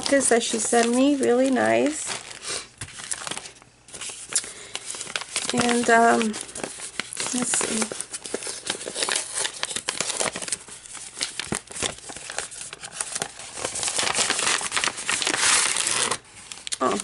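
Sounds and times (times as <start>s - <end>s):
paper and plastic rustling: 0.0s - 17.0s.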